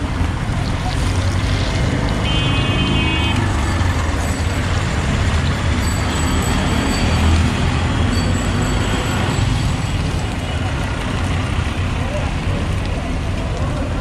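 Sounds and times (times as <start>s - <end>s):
deep-frying sizzle: 0.0s - 14.0s
street traffic: 0.0s - 14.0s.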